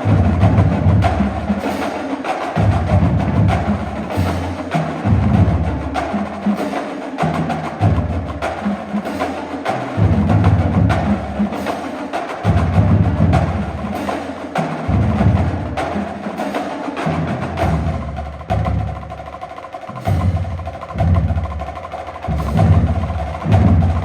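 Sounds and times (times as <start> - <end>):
snare and tenor drums: 0.0 - 24.0.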